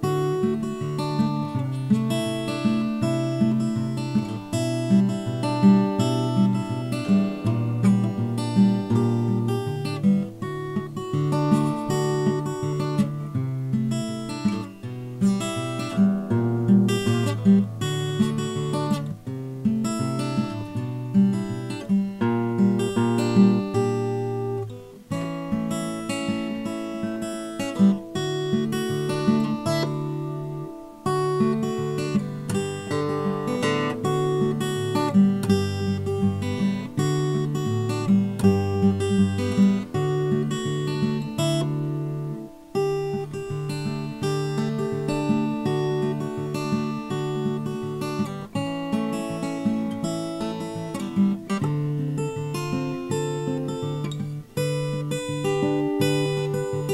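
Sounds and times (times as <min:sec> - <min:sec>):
solo acoustic guitar: 0:00.0 - 0:56.9.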